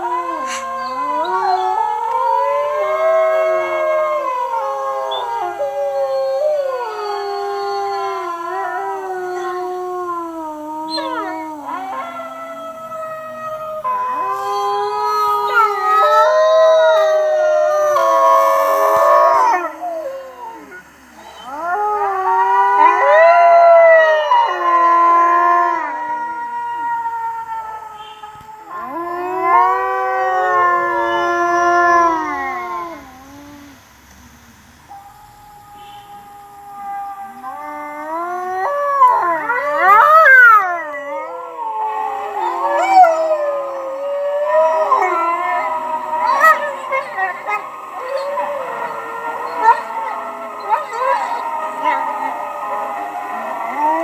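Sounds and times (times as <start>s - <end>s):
wolves howling in chorus: 0.0s - 33.8s, 34.9s - 54.0s.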